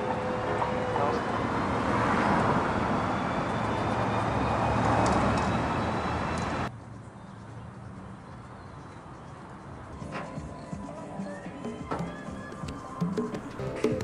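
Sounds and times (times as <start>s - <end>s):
quiet street background: 0.0s - 14.0s
road traffic passing: 0.0s - 14.0s.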